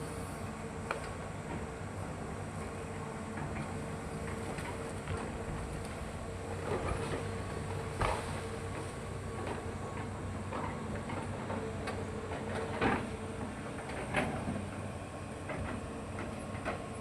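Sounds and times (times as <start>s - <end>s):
excavator whining: 0.0s - 17.0s.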